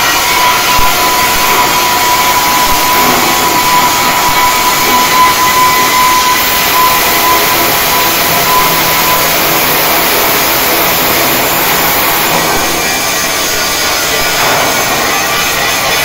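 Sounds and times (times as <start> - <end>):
thin steady whine: 0.0 - 16.0
welding arc hissing: 0.0 - 16.0.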